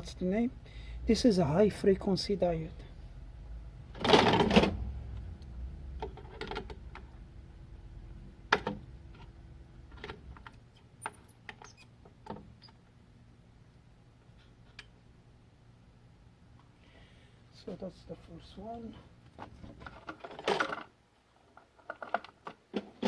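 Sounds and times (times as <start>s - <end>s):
faint low hum: 0.0s - 22.2s.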